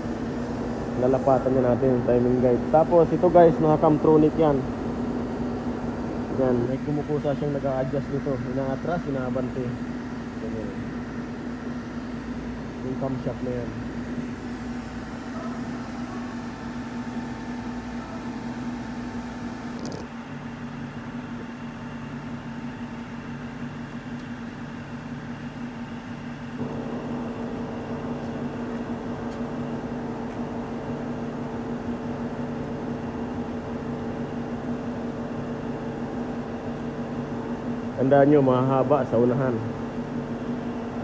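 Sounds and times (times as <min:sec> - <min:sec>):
electric machine hum: 0:00.0 - 0:41.0.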